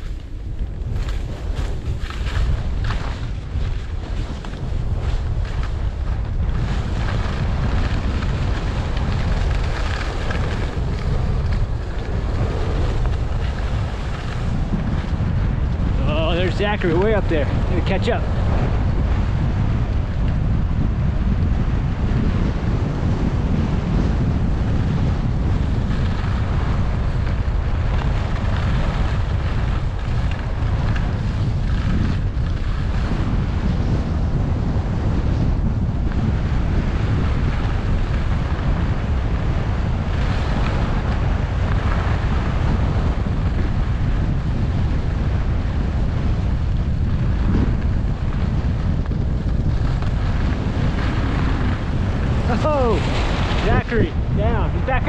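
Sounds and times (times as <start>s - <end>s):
skis scraping on snow: 0.0s - 55.0s
wind rushing over microphone: 0.0s - 55.0s.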